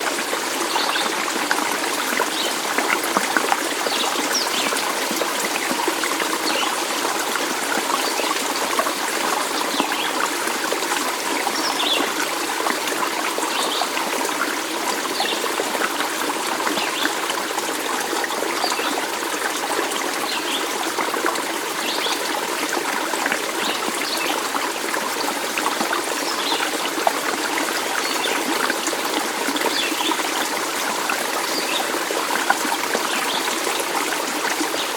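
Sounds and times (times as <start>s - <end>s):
stream water babbling: 0.0s - 34.9s.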